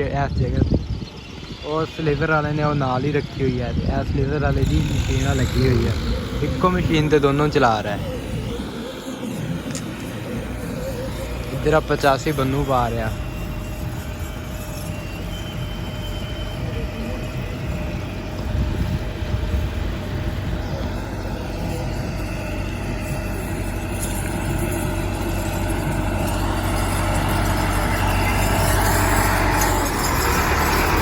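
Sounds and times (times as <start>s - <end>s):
diesel tractor engine running: 0.0s - 31.0s.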